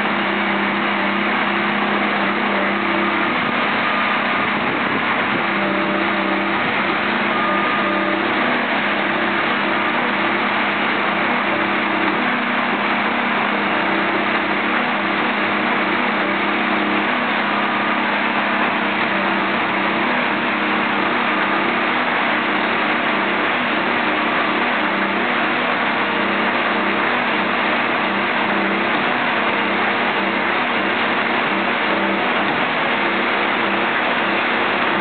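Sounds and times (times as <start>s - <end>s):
engine and hydraulic drone: 0.0s - 35.0s.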